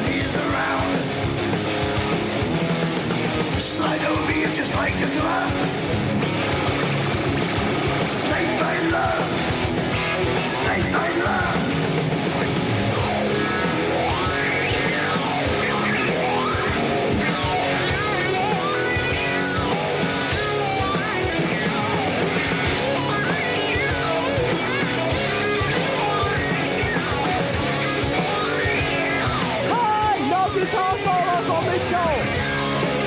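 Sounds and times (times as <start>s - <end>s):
bass and drums: 0.0s - 33.0s
electric guitar lead: 0.0s - 33.0s.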